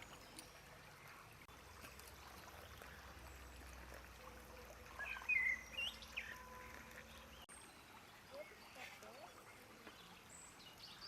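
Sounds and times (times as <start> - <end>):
birds chirping: 0.0 - 11.0
faint outdoor background noise: 0.0 - 11.0.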